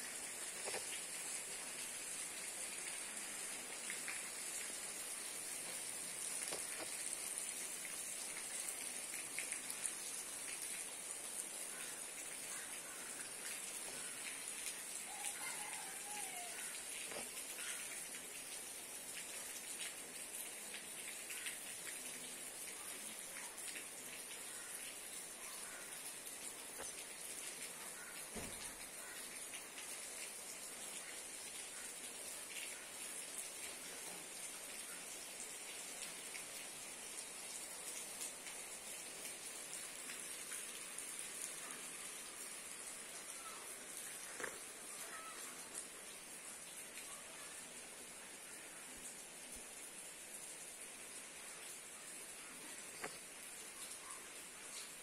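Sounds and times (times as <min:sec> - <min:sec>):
light rain pattering: 0:00.0 - 0:55.0
small water drips: 0:00.3 - 0:55.0.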